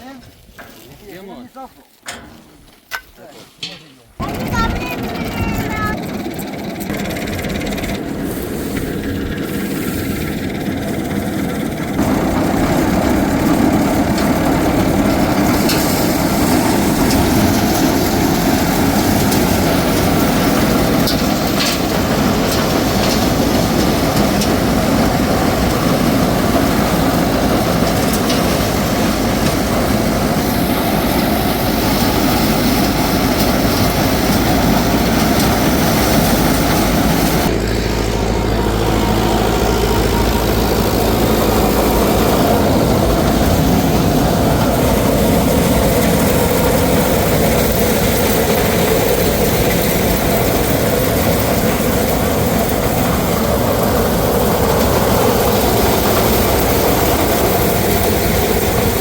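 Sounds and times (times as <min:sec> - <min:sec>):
heavy engine running: 0:04.2 - 0:59.0.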